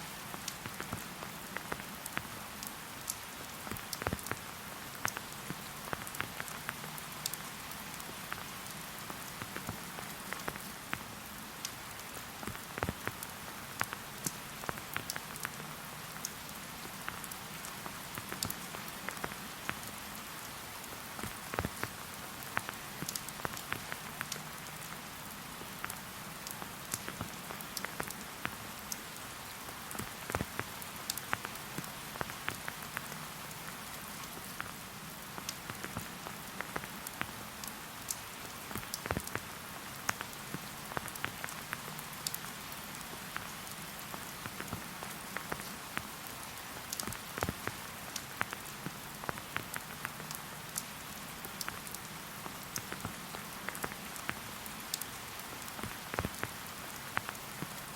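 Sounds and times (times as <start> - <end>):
steady rain hiss: 0.0 - 57.9
raindrops tapping close by: 0.1 - 57.9.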